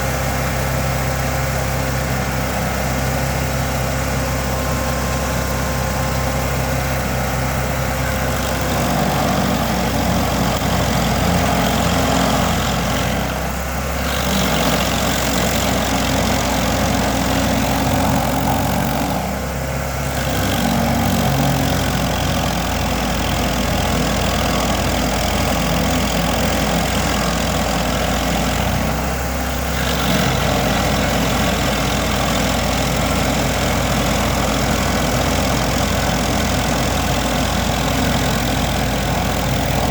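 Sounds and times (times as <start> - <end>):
cutter wheel grinding wood: 0.0 - 39.9
stump grinder engine under load: 0.0 - 39.9.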